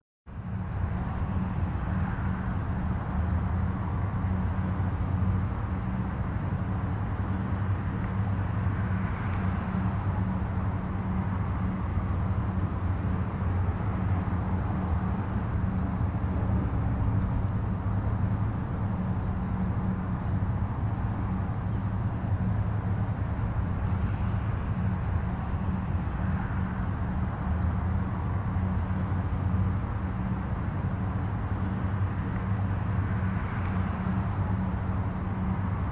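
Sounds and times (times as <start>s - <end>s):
distant highway traffic: 0.3s - 35.9s
single vehicles passing: 0.4s - 35.9s.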